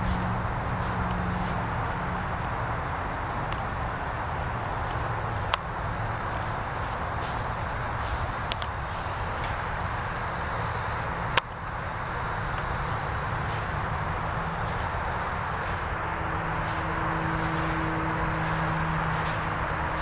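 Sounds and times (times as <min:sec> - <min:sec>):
engine rumble: 0:00.0 - 0:20.0
steady hum: 0:00.0 - 0:20.0.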